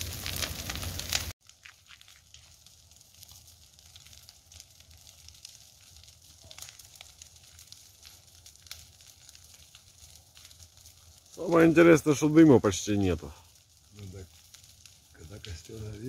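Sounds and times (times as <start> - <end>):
bonfire crackling and hissing: 0.0 - 16.0
fire popping: 0.0 - 16.0.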